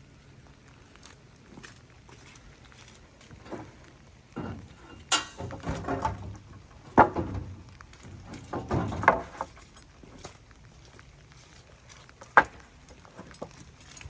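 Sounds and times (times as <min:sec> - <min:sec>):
scraping and rustling: 0:01.5 - 0:14.0.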